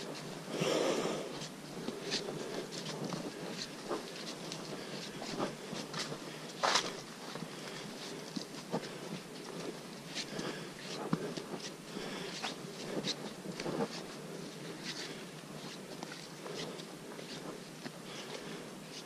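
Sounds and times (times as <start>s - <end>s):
footsteps on muddy leafy trail: 0.0s - 19.0s
steady background hiss: 0.0s - 19.0s.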